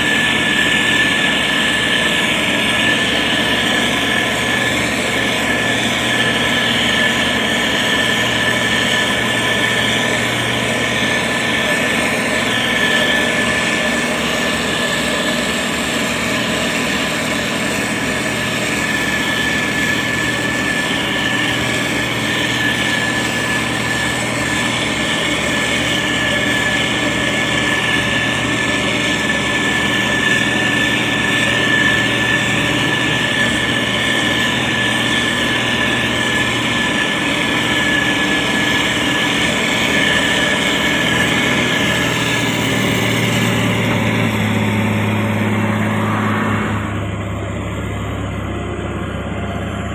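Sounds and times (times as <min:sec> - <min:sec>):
constant high whine: 0:00.0 - 0:49.9
heavy diesel engine running: 0:00.0 - 0:49.9.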